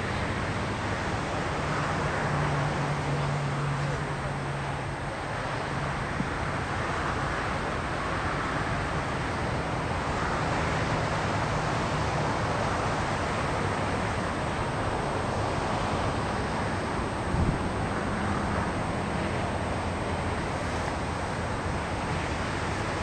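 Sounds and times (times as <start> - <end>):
rushing outdoor background noise: 0.0 - 23.0.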